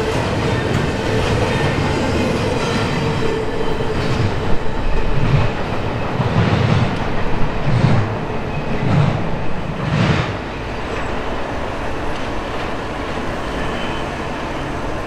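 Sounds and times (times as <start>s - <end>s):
freight train rumble: 0.0s - 15.0s
train wheels clacking on rails: 0.0s - 15.0s.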